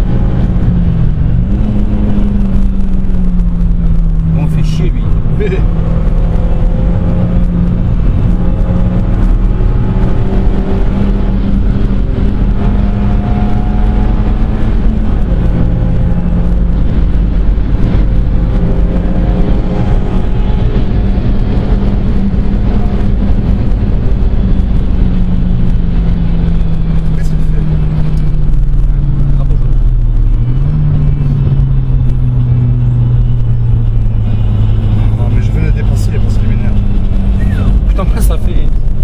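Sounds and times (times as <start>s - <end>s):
car engine revving: 0.0s - 39.0s
road and tyre noise: 0.0s - 39.0s.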